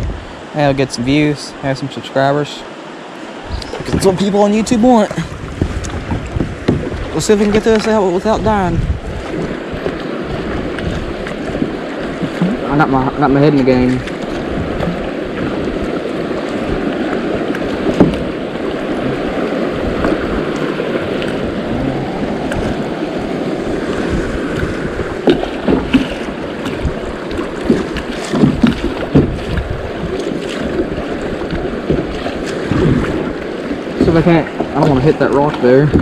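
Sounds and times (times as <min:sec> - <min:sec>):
wind buffeting microphone: 0:00.0 - 0:01.4, 0:03.1 - 0:36.0
rushing river rapids: 0:00.0 - 0:35.9
paddle knocks and splashes: 0:03.1 - 0:36.0.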